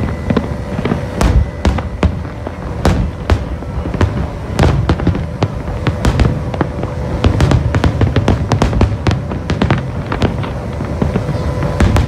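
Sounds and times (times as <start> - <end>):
fireworks bangs and crackling pops: 0.0 - 12.0.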